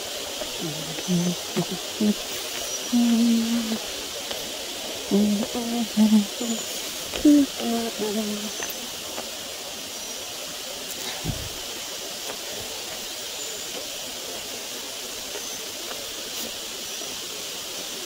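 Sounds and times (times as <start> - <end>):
faint ticks: 0.0 - 9.6, 10.9 - 17.1
steady high hiss: 0.0 - 18.0.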